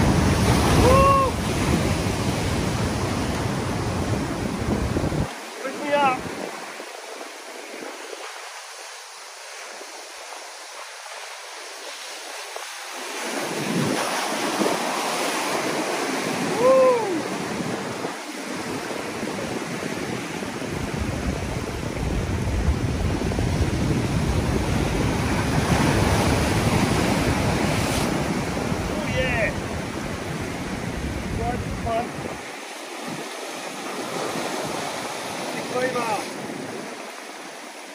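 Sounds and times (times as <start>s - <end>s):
surf washing over rocks: 0.0s - 37.9s
wind on microphone: 0.0s - 37.9s.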